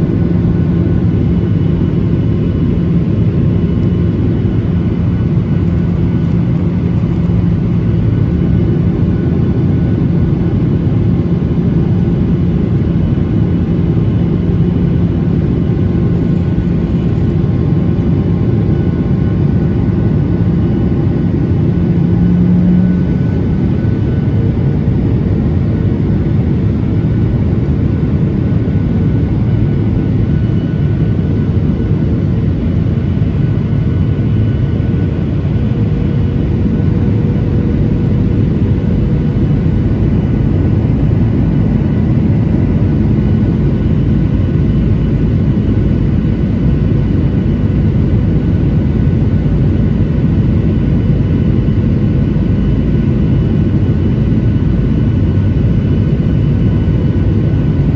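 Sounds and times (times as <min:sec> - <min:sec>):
jet engines rumbling: 0:00.0 - 0:57.9.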